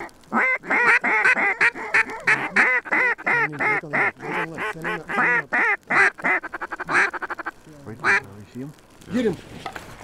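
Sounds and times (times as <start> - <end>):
duck calls quacking: 0.0 - 8.3.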